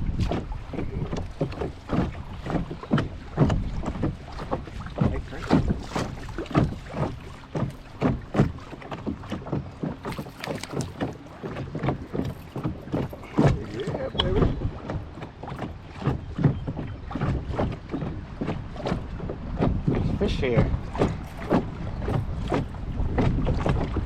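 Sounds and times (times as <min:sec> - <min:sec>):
small waves lapping: 0:00.0 - 0:24.0
wind buffeting microphone: 0:00.0 - 0:24.0.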